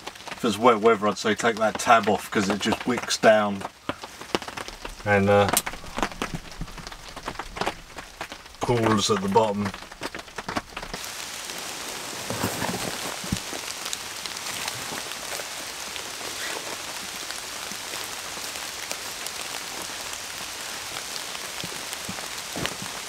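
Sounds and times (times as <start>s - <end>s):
heavy rain on cardboard: 0.0s - 23.0s.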